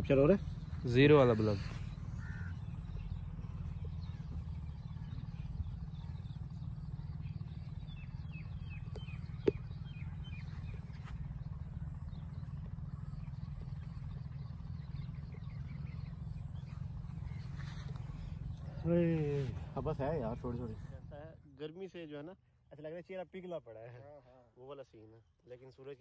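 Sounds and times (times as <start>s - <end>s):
steady low rumble: 0.0s - 23.4s
small birds chirping: 0.0s - 26.0s.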